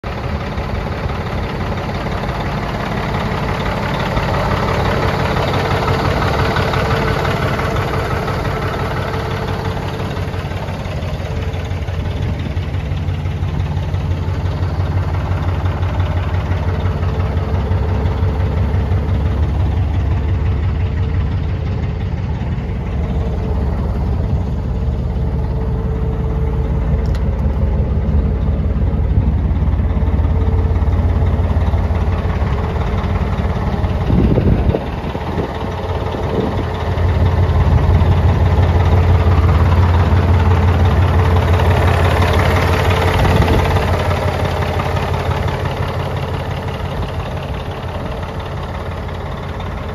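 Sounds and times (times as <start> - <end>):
deep exhaust note: 0.0 - 49.9
diesel engine idling: 0.0 - 49.9
engine clatter: 0.0 - 49.9.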